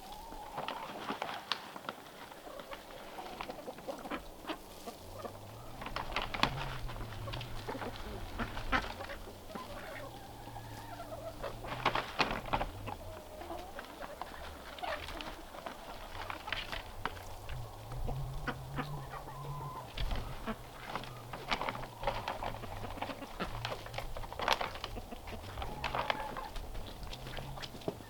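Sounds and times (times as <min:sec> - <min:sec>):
ducks quacking: 0:02.3 - 0:28.0.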